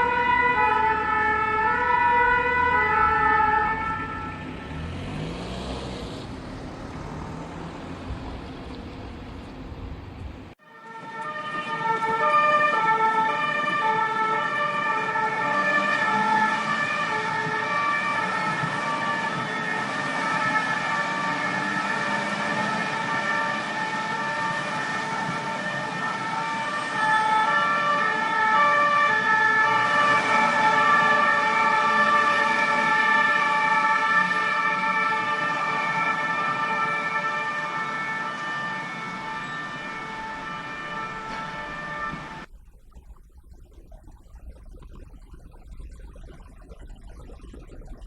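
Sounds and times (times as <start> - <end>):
two-tone emergency siren: 0.0 - 10.0, 10.6 - 42.5
traffic noise: 0.0 - 42.5.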